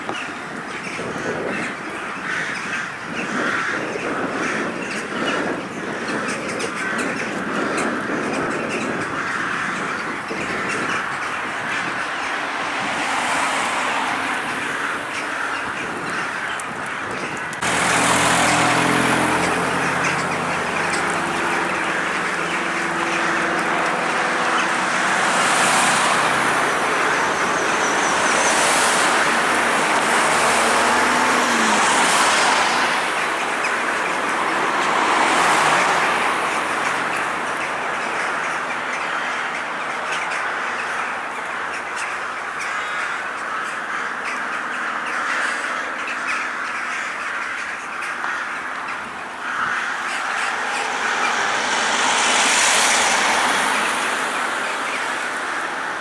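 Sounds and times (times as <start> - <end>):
flock of birds chattering: 0.0 - 56.0
traffic noise: 0.0 - 56.0.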